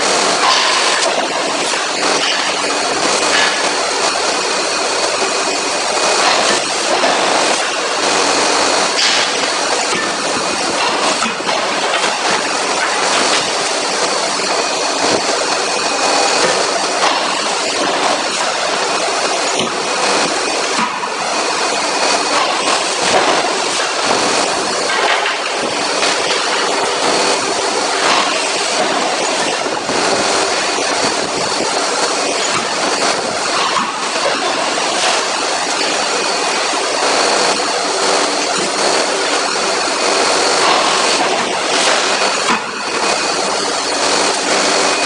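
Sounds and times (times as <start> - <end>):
loud machinery noise: 0.0 - 45.0.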